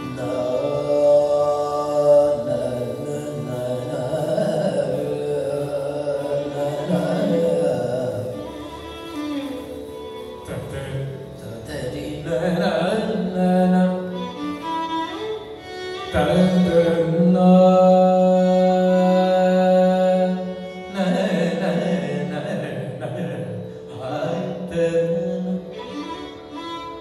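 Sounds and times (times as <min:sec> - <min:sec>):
man singing: 0:00.0 - 0:08.8, 0:10.4 - 0:14.6, 0:16.1 - 0:26.2
violin: 0:00.0 - 0:27.0.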